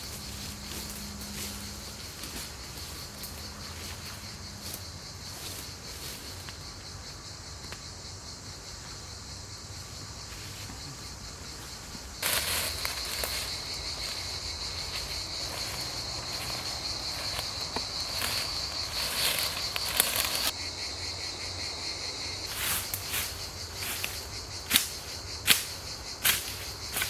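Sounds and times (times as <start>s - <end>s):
insects buzzing drone: 0.0s - 27.0s.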